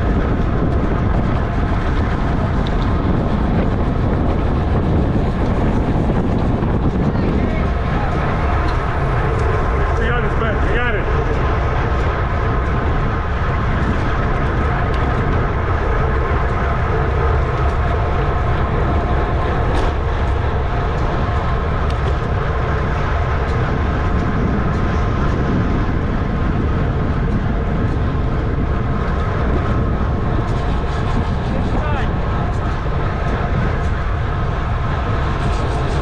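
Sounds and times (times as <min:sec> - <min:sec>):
bike tyres and drivetrain whirring: 0:00.0 - 0:36.0
rushing wind noise: 0:00.0 - 0:36.0.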